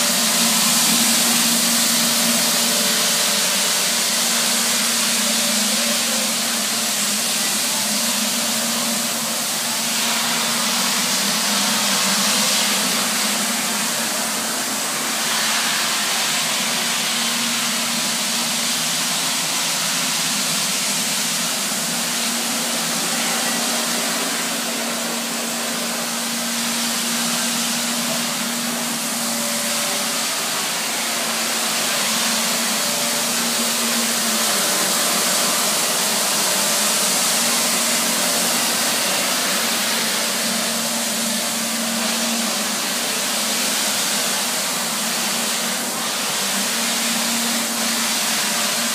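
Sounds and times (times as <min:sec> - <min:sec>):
scrubber motor and suction hiss: 0:00.0 - 0:48.9.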